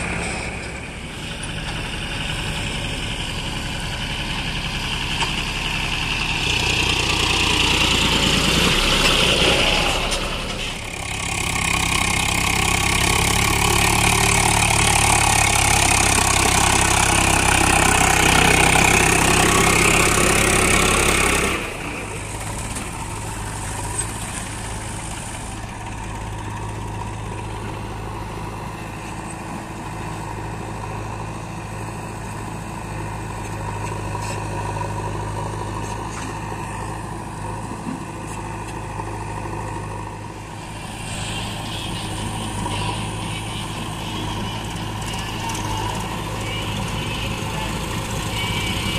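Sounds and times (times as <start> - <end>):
diesel tractor engines under load: 0.0 - 48.9.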